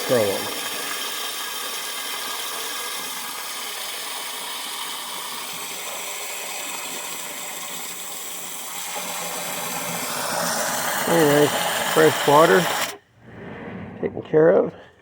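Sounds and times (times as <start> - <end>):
water running from a hose: 0.0 - 13.0.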